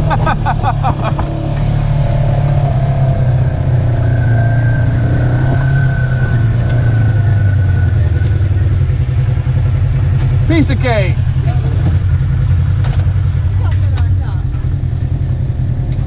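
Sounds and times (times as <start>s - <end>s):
engine running under throttle: 0.0s - 16.0s.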